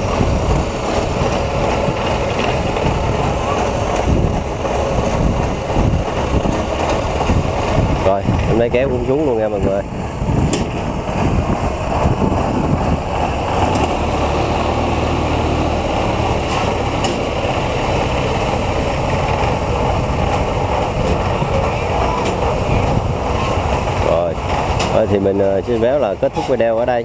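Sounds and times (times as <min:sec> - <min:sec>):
engine running under load: 0:00.0 - 0:27.0.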